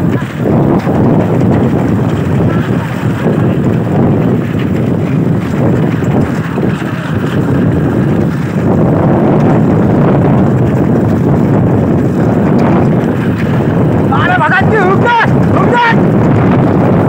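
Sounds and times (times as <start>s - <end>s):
motorcycle running: 0.0s - 17.0s
wind buffeting microphone: 0.0s - 17.0s.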